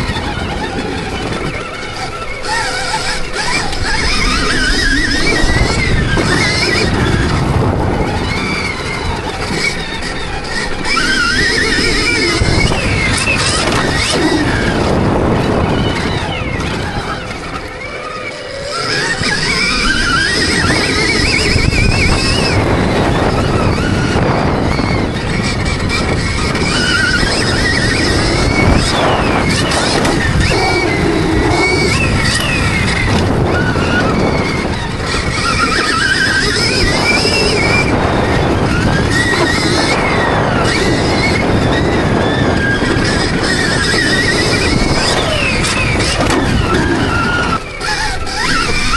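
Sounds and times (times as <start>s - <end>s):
dirt bike engine whine: 0.0s - 48.9s
rushing wind: 0.0s - 48.9s
track noise: 0.0s - 48.9s.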